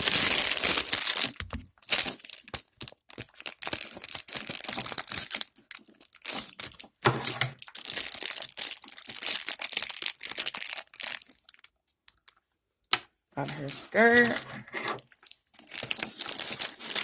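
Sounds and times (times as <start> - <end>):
plastic packaging crinkling: 0.0 - 12.4, 13.4 - 17.0.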